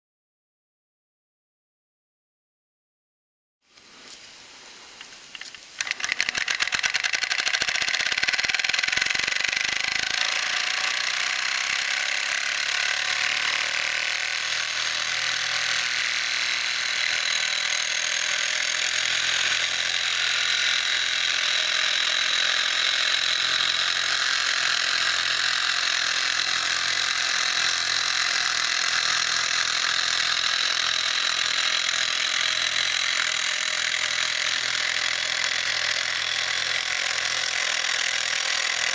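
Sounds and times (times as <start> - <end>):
toy steam engine clattering: 5.3 - 38.9.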